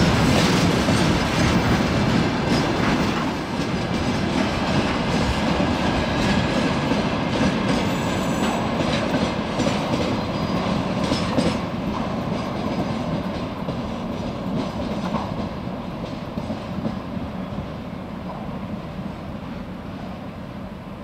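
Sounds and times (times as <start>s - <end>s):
train wheels clicking over rail joints: 0.0s - 18.6s.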